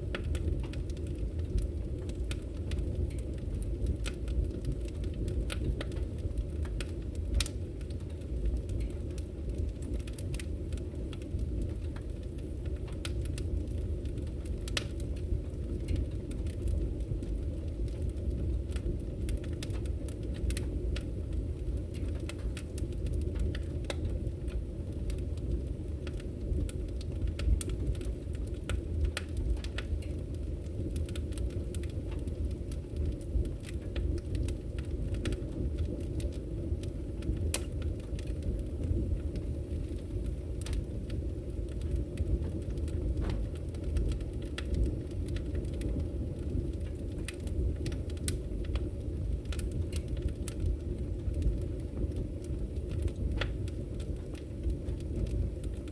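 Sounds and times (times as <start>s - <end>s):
burning logs crackling and popping: 0.0s - 55.9s
low rumble of flames: 0.0s - 55.9s.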